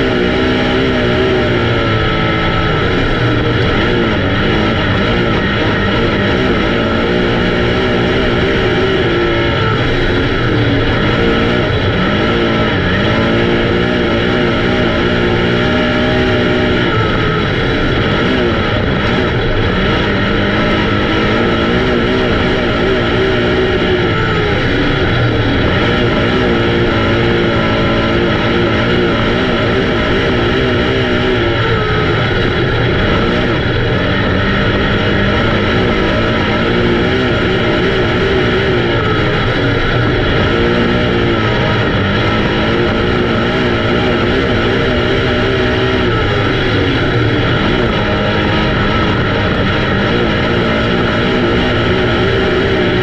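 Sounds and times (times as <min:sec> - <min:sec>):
race car engines accelerating: 0:00.0 - 0:53.0.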